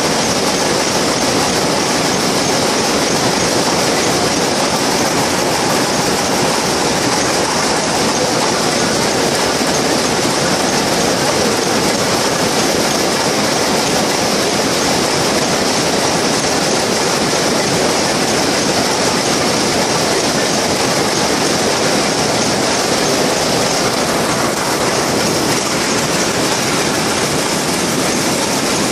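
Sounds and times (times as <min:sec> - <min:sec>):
weaving looms clattering: 0:00.0 - 0:28.9.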